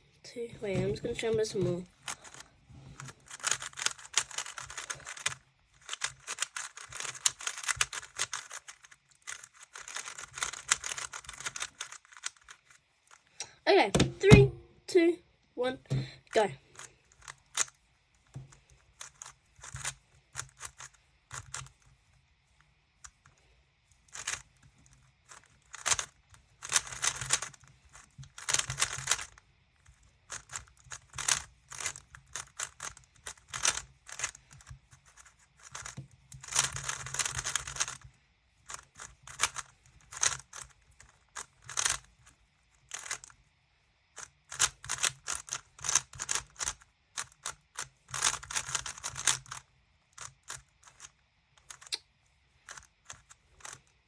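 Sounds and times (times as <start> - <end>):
puzzle cube plastic clicking: 0.8 - 13.4, 16.3 - 21.9, 23.0 - 38.1, 38.7 - 43.4, 44.2 - 49.6, 50.2 - 52.1, 52.7 - 53.9.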